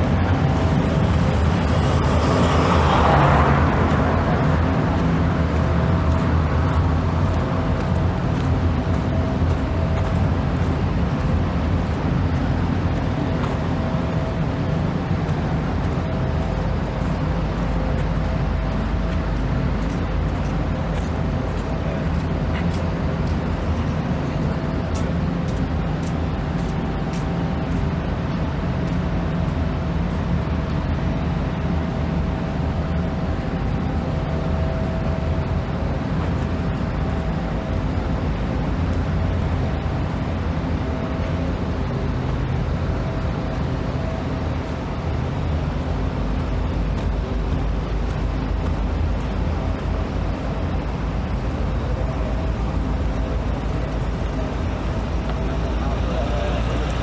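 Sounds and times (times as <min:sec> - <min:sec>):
engine and road rumble: 0:00.0 - 0:57.0
faint steady whine: 0:04.1 - 0:57.0.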